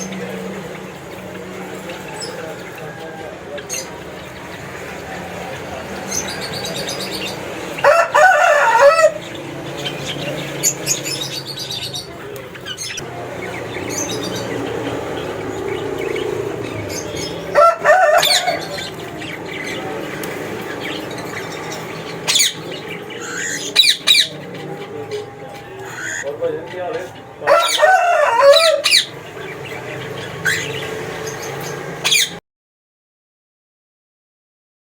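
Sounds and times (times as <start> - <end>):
cockatiels calling and chirping: 0.0 - 32.4.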